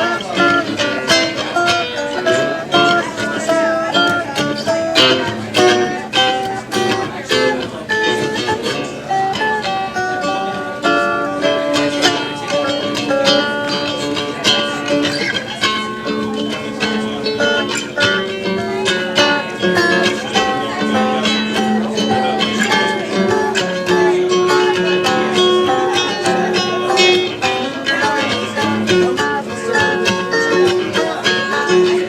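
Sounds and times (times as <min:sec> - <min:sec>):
acoustic guitar music: 0:00.0 - 0:32.0.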